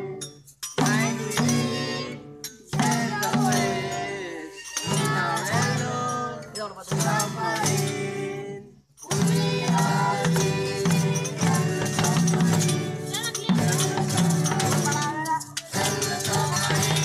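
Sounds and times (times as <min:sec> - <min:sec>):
group of voices singing: 0:00.0 - 0:17.0
shakers and hand drums: 0:00.0 - 0:17.0
strummed acoustic guitar: 0:00.0 - 0:17.0.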